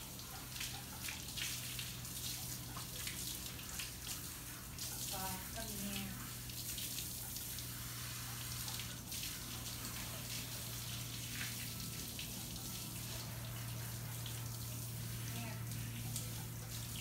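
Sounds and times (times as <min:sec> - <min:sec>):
hose spraying water: 0:00.0 - 0:17.0.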